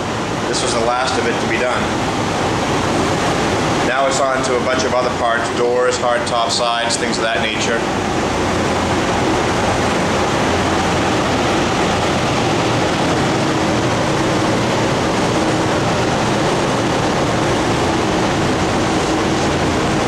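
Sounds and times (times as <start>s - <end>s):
faint steady hum: 0.0s - 20.0s
fan air rush: 0.0s - 20.0s.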